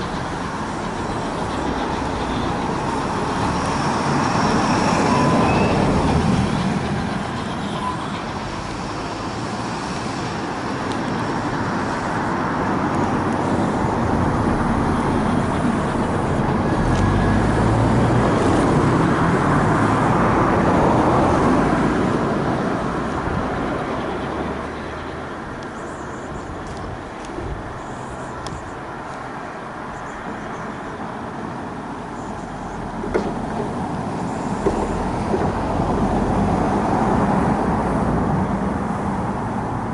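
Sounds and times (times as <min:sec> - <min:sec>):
train rumbling by: 0:00.0 - 0:29.4, 0:30.0 - 0:39.9.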